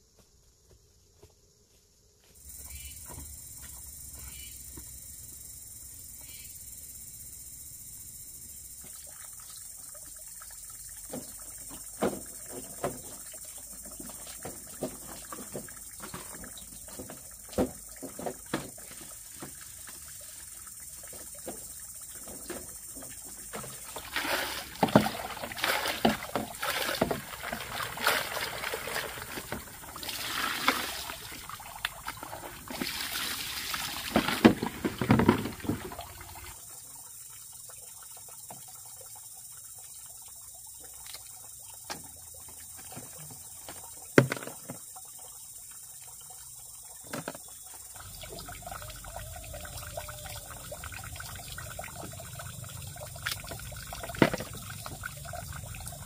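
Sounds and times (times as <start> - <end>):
water splashing and sloshing: 8.6 - 56.0.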